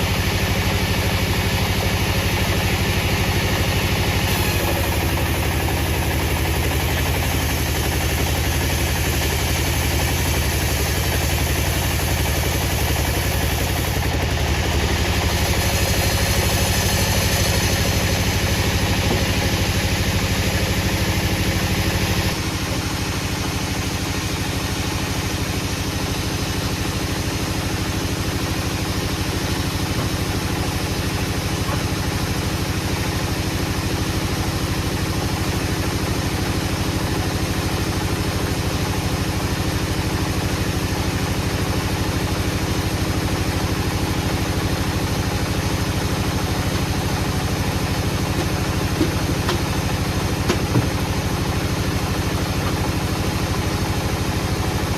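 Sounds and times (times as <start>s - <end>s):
engine running steadily: 0.0s - 54.9s.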